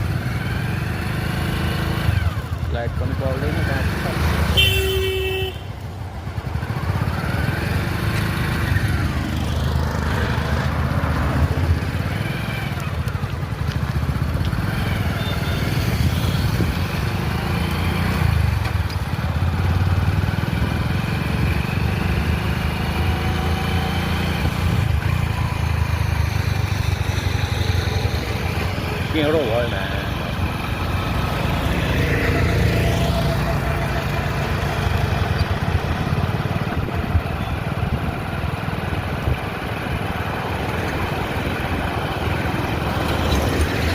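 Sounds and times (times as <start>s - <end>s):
motorcycle engine rumbling: 0.0s - 43.9s.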